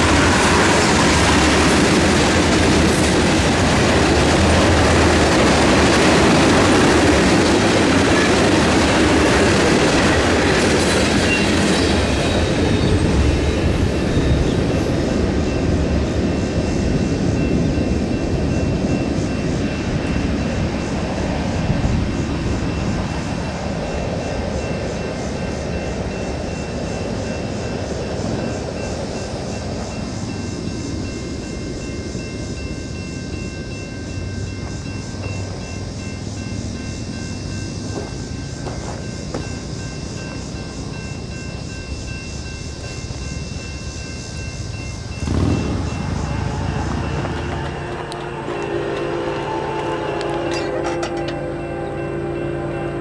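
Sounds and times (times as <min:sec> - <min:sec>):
train passing rumble: 0:00.0 - 0:53.0.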